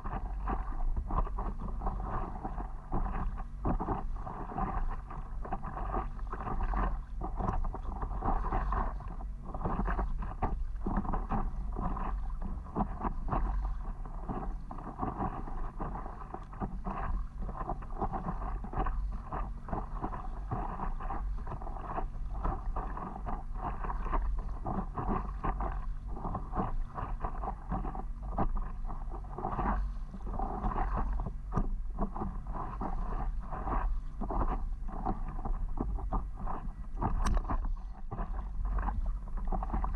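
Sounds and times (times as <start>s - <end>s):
water splashing against paddleboard: 0.0s - 39.9s
wind on microphone: 0.0s - 39.9s.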